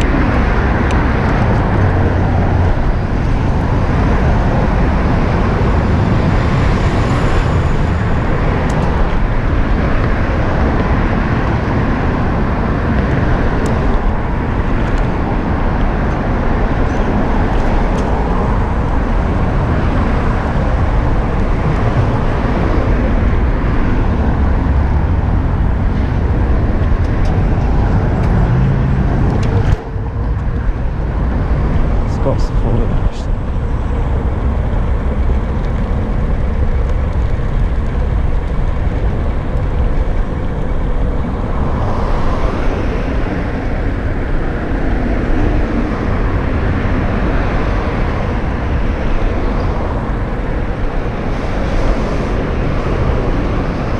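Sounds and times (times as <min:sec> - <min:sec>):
road noise: 0:00.0 - 0:53.9
wind rushing: 0:00.0 - 0:53.9.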